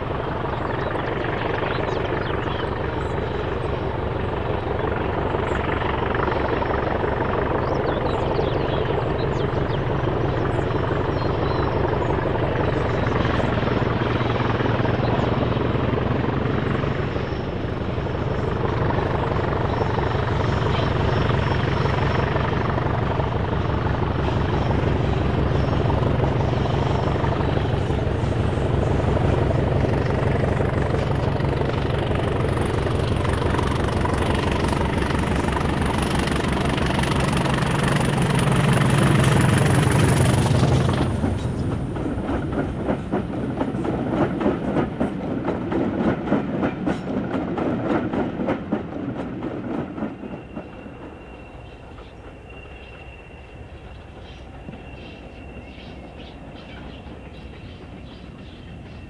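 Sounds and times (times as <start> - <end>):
diesel locomotive engine working hard: 0.0 - 59.0
train wheels clattering over rail joints: 2.2 - 59.0.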